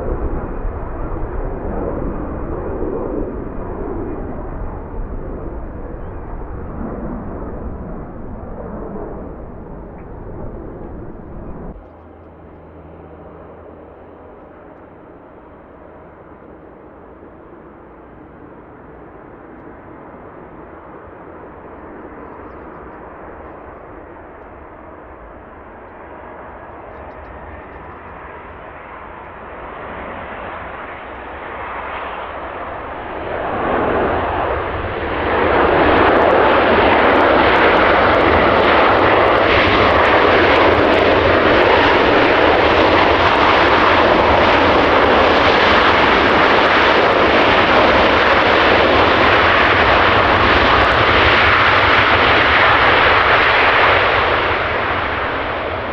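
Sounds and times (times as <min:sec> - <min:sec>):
jet engines roaring: 0:00.0 - 0:55.9.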